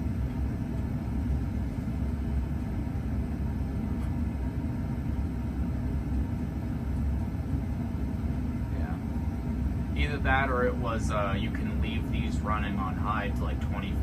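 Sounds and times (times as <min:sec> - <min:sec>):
ceiling fan air rumble: 0:00.0 - 0:14.0.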